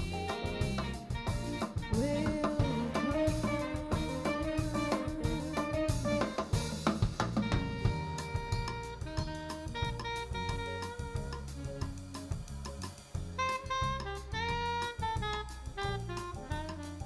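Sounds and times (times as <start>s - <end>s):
drums: 0.0s - 17.0s
live jazz band playing: 0.0s - 17.0s.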